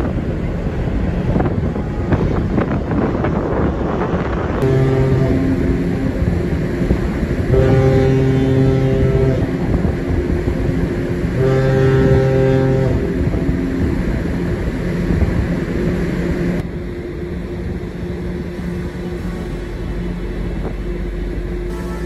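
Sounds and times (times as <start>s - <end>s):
ferry engine low rumble: 0.0s - 22.0s
wind noise: 0.0s - 22.0s
ship's horn: 1.2s - 3.1s, 4.5s - 16.7s, 17.3s - 22.0s.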